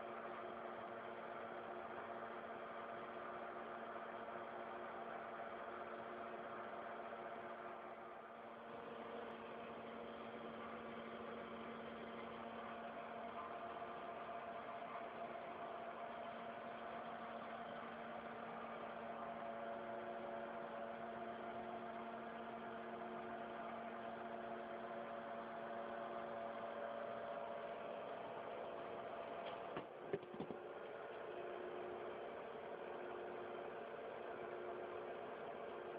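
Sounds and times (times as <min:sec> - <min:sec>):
mill machine humming: 0:00.0 - 0:35.9.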